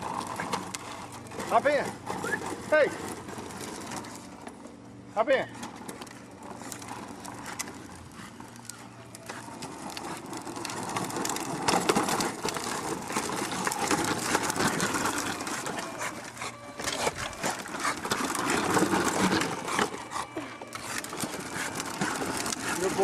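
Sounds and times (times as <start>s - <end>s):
toy truck electric motor whirring: 0.0s - 4.6s, 5.5s - 23.0s
plastic wheels rattling: 0.0s - 23.0s.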